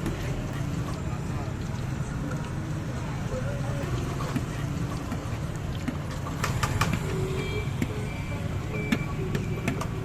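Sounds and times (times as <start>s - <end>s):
traffic rumble: 0.0s - 10.0s.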